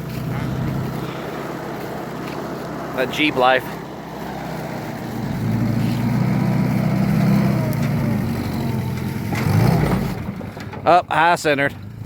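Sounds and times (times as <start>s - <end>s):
jeep engine running under load: 0.0s - 12.0s.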